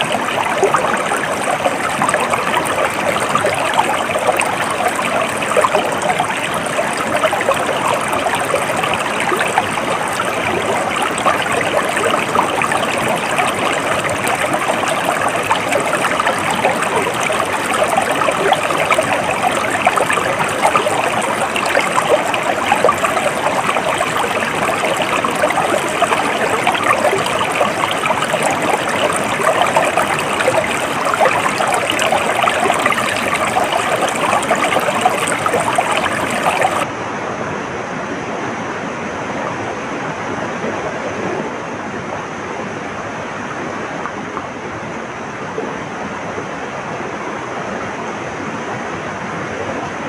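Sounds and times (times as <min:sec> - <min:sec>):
dull steady water rushing: 0:00.0 - 0:50.0
stream flowing and splashing: 0:00.0 - 0:50.0.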